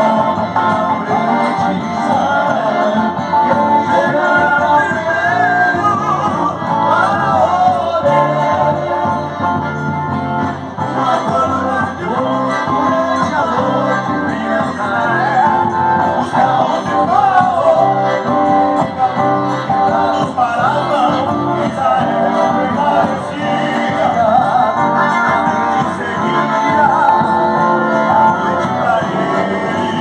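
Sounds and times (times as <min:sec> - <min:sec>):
gospel song with singing: 0:00.0 - 0:30.0
repeating bass line: 0:00.0 - 0:30.0.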